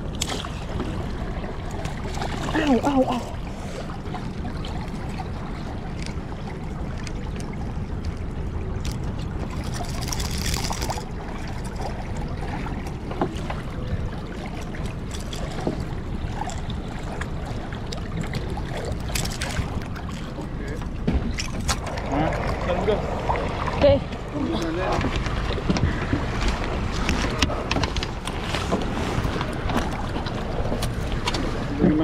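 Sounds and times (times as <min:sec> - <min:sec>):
steady low rumble: 0:00.0 - 0:32.0
water splashing and trickling: 0:00.0 - 0:32.0.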